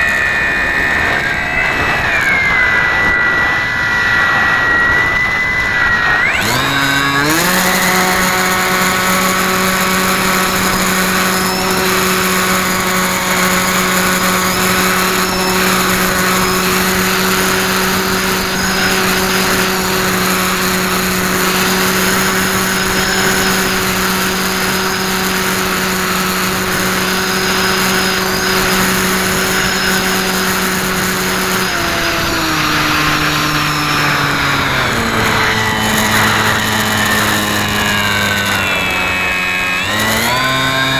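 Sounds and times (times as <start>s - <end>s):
model airplane motor and propeller: 0.0s - 40.9s.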